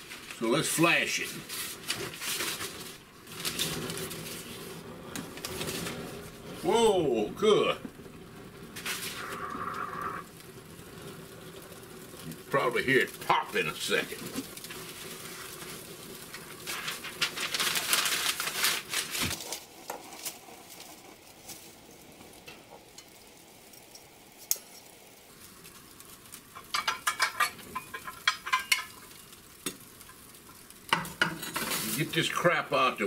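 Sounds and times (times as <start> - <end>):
newspaper burning and crackling: 0.0 - 33.0.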